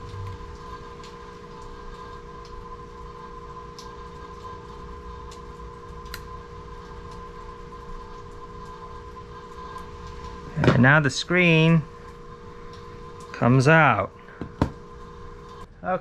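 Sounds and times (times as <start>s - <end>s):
steady room equipment hum: 0.0s - 16.0s.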